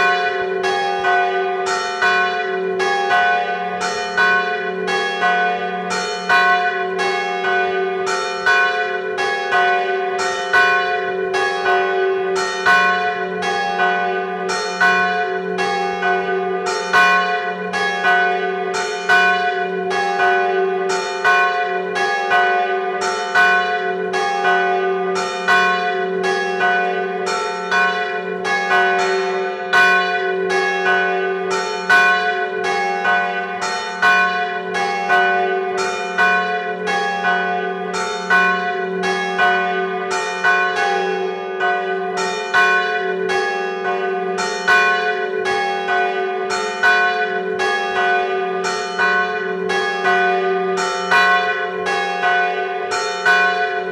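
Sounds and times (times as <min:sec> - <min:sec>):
church bells tolling: 0:00.0 - 0:53.9.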